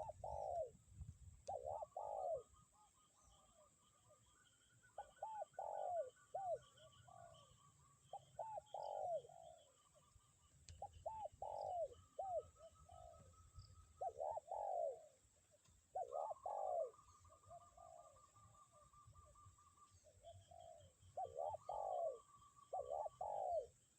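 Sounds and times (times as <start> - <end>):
dove cooing: 0.0 - 0.8, 1.5 - 4.3, 4.9 - 10.2, 10.8 - 23.8
small bird chattering faintly: 0.0 - 23.9.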